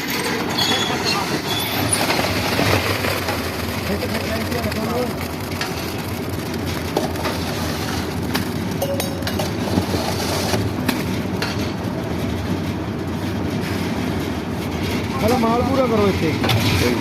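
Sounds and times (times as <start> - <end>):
machine engine running: 0.1 - 17.0.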